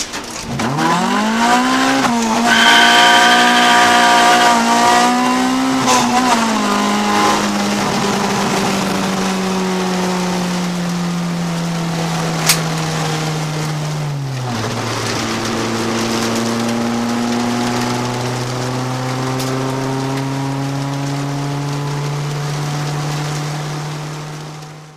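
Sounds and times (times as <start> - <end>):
car engine at light throttle: 0.0 - 24.9.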